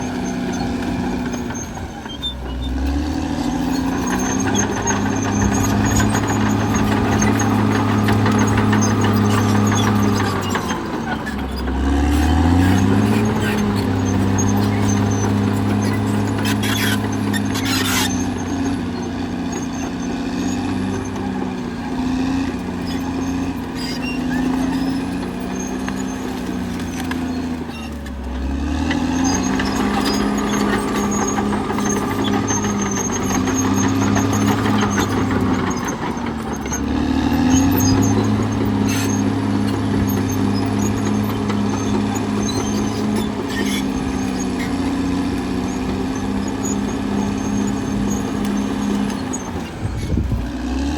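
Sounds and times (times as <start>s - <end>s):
bulldozer diesel engine working: 0.0s - 50.9s.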